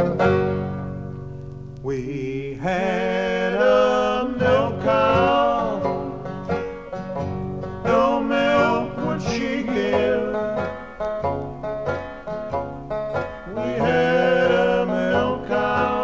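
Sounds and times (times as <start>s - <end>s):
country folk instrumental: 0.0s - 16.0s.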